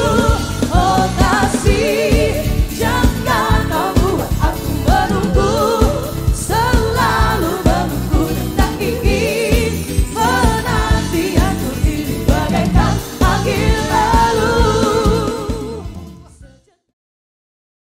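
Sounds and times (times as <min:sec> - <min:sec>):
steady drum beat: 0:00.0 - 0:16.1
person singing with vibrato: 0:00.0 - 0:16.4.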